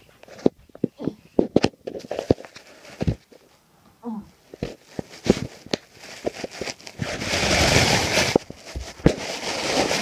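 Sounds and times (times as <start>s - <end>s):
scuffling and rustling: 0.0s - 3.6s, 4.4s - 10.0s.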